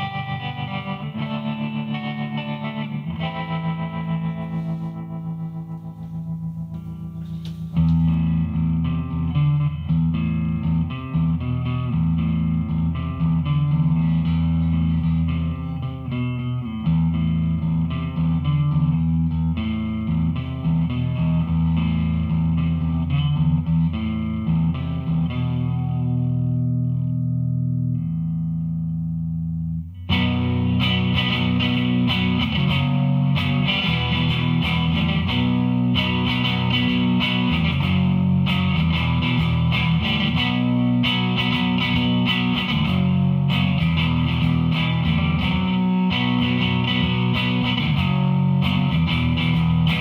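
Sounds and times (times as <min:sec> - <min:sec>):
electric guitar notes and chords: 0:00.0 - 0:50.0.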